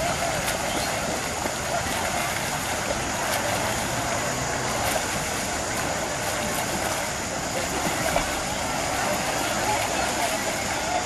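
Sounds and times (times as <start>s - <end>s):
crowd hubbub: 0.0s - 11.0s
swimmers splashing: 0.0s - 11.0s.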